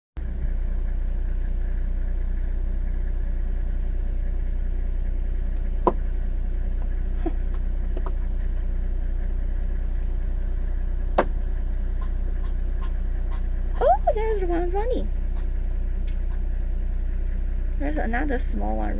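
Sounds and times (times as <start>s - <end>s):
vehicle engine idling: 0.2s - 18.9s.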